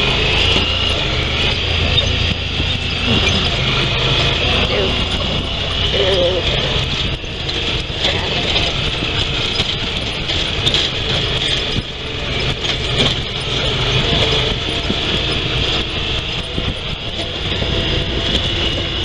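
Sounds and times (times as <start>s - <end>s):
knocks and rattles: 0.0s - 19.0s
rushing noise: 0.0s - 19.0s
vehicle engine running: 0.0s - 19.0s.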